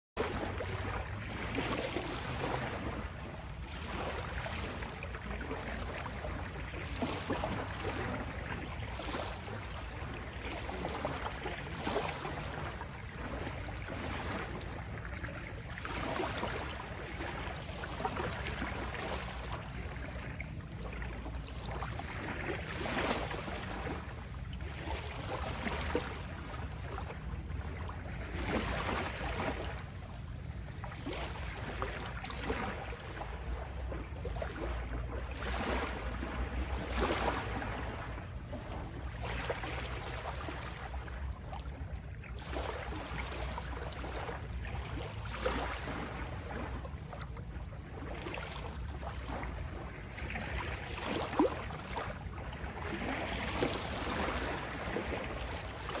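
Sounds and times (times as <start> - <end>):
small waves lapping ashore: 0.2 - 56.0.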